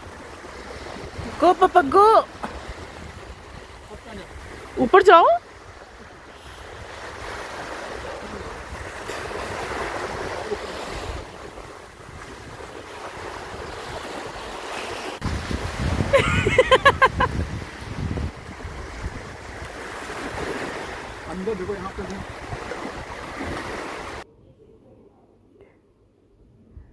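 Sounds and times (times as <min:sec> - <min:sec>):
small waves on sandy shore: 0:00.0 - 0:24.2
wind buffeting microphone: 0:00.0 - 0:24.2.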